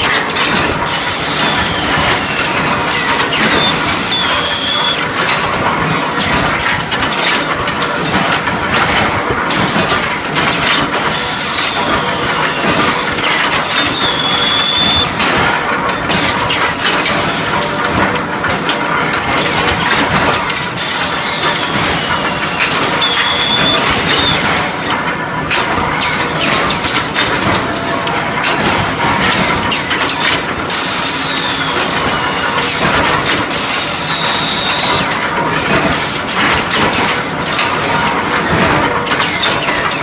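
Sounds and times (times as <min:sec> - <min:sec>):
machine hum and clatter: 0:00.0 - 0:40.0.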